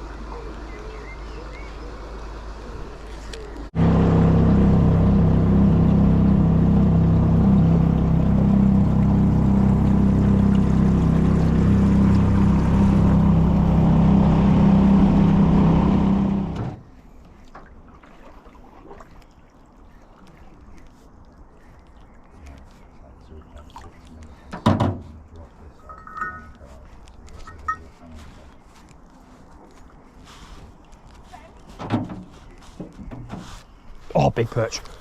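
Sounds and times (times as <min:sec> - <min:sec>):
outboard motor droning: 0:00.0 - 0:35.0.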